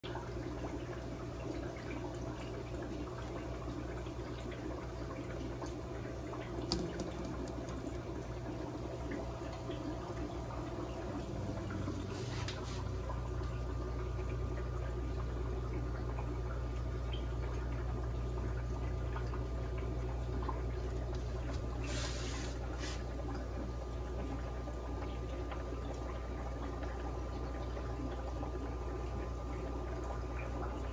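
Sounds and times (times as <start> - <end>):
aquarium water bubbling: 0.0 - 30.9
steady low hum: 0.0 - 30.9.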